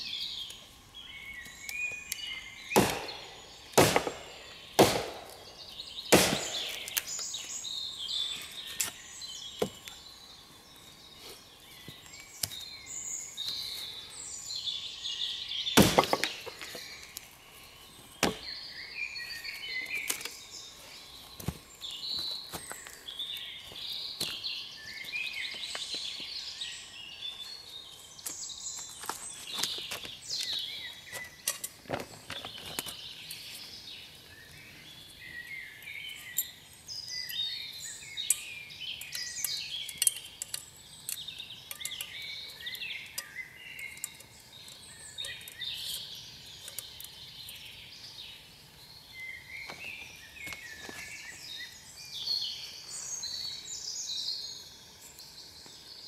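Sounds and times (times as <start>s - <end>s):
birds singing: 0.0s - 56.0s.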